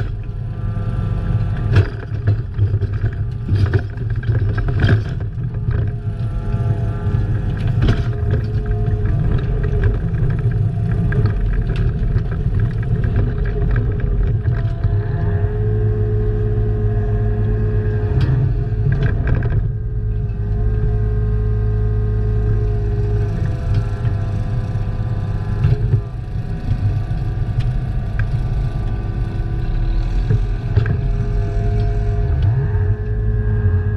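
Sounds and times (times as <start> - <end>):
diesel engine under load: 0.0 - 33.9.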